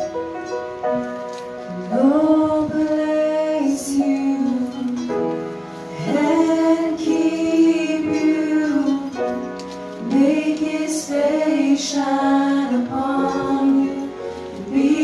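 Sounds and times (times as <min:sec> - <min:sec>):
soft accompaniment: 0:00.0 - 0:15.0
woman singing a hymn: 0:01.8 - 0:15.0.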